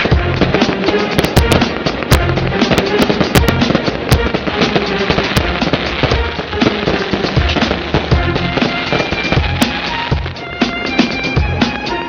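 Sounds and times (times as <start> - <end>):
fireworks bangs and crackling: 0.0 - 12.0
music with bass notes: 0.0 - 12.0.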